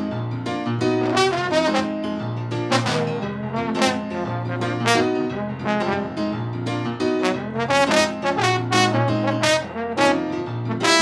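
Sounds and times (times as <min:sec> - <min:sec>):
jazz band with trombone: 0:01.0 - 0:06.4, 0:07.1 - 0:11.0.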